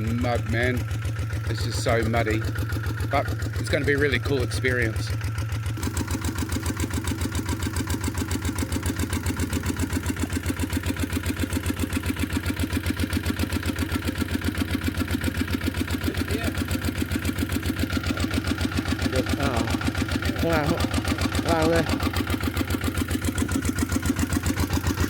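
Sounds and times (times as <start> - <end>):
walking tractor engine idling: 0.0 - 25.0.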